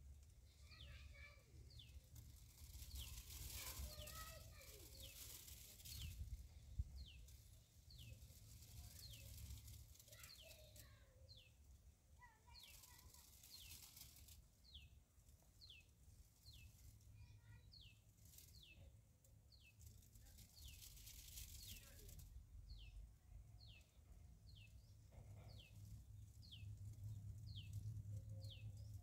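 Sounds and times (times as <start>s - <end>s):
faint high-pitched bird chirps: 0.5s - 2.0s, 2.7s - 11.6s, 12.2s - 15.0s, 15.6s - 23.0s, 23.6s - 29.0s.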